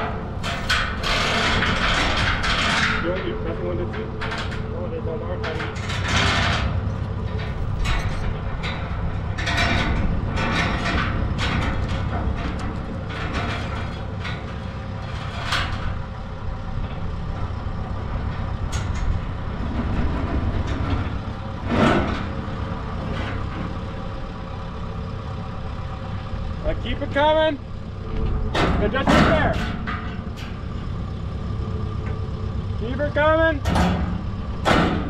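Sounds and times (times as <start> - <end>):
metallic clanks: 0.0 - 16.1, 16.8 - 24.1, 28.0 - 31.1, 32.0 - 35.0
diesel engine running: 0.0 - 35.0.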